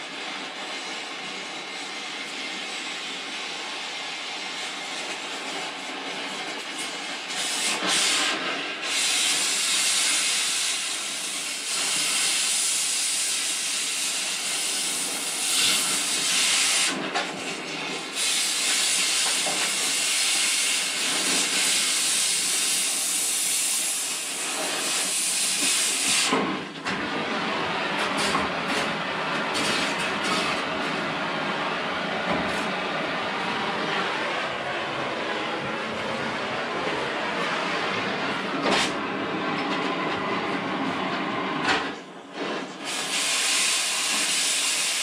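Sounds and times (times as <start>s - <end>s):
cutting torch hissing: 0.0s - 39.0s, 42.4s - 45.0s.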